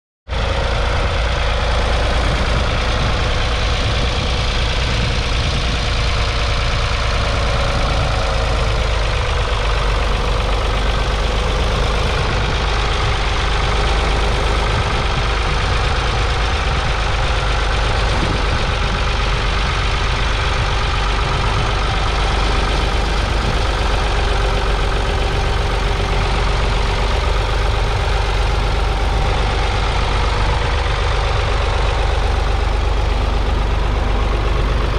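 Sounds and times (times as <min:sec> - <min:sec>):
tractor diesel engine under load: 0:00.3 - 0:34.9.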